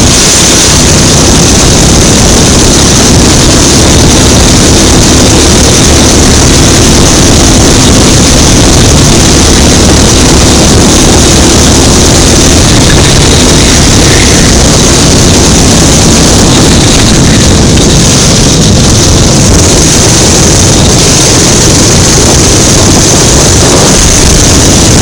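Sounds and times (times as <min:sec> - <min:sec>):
go-kart engine running: 0:00.0 - 0:25.0.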